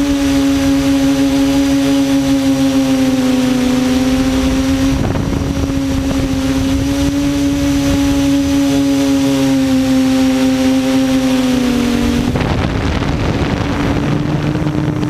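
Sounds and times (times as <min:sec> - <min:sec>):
quadcopter propellers humming: 0:00.0 - 0:15.0.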